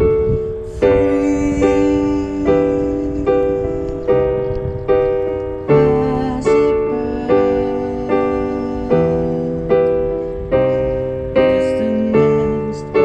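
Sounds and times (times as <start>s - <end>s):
piano chords on keyboard: 0.0s - 13.0s.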